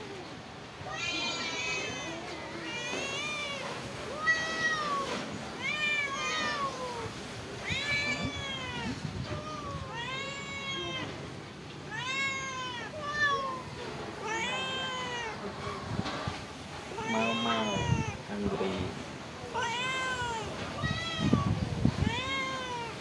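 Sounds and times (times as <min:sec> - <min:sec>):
cat meowing: 0:00.8 - 0:23.0.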